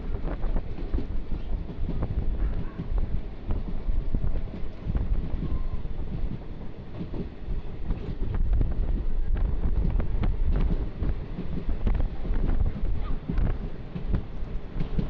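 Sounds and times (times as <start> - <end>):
train clacks and rattles: 0.0 - 15.0
train rumbling: 0.0 - 15.0
wind buffeting microphone: 0.0 - 15.0.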